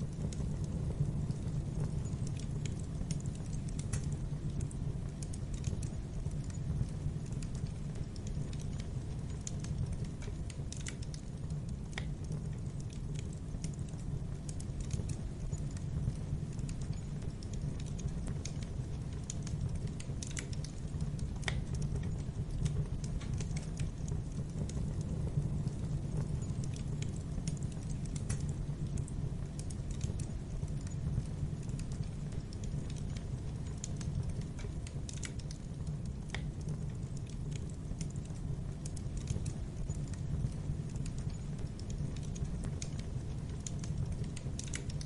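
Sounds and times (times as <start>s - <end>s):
fire rumbling: 0.0s - 45.0s
logs crackling and popping: 0.0s - 45.0s.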